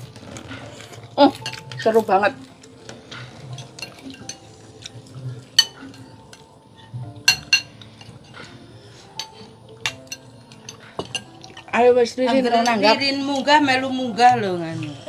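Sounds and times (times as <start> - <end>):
spoons clinking against bowls: 0.9 - 13.6.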